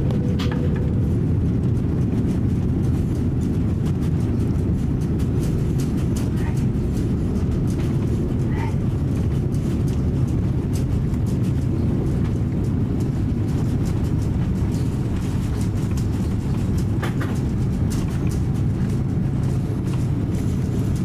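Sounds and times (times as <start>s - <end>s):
aircraft cabin rumble: 0.0s - 21.0s
faint ticks and rattles: 0.4s - 21.0s.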